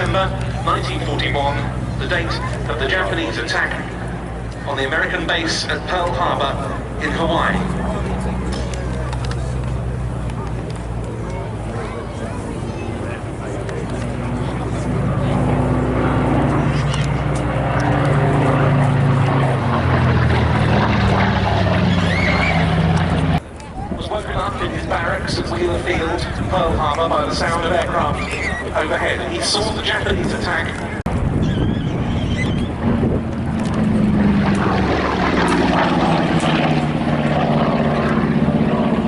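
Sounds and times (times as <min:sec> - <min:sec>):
propeller plane engine drone: 0:00.0 - 0:39.0.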